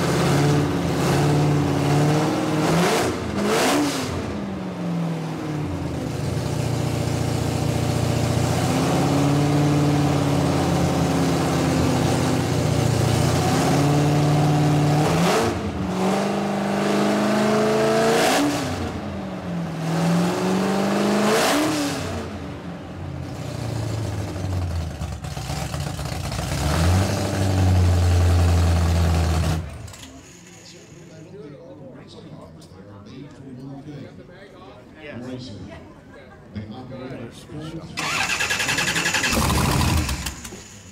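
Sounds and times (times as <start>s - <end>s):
hot rod engine revving: 0.0s - 30.0s, 38.0s - 40.9s.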